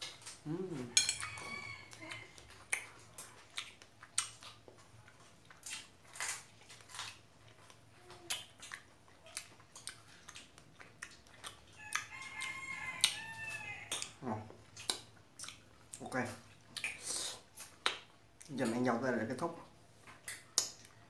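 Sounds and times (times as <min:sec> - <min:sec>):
person chewing with mouth clicks: 0:00.0 - 0:18.8, 0:20.0 - 0:21.0.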